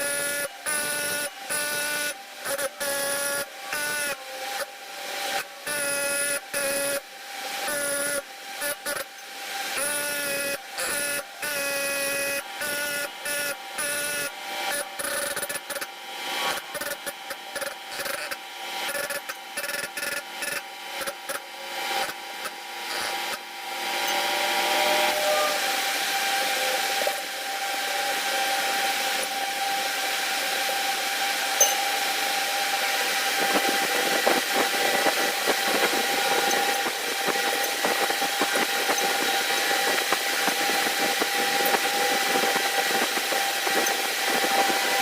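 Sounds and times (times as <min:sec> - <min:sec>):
power tool motor whining: 0:00.0 - 0:45.0.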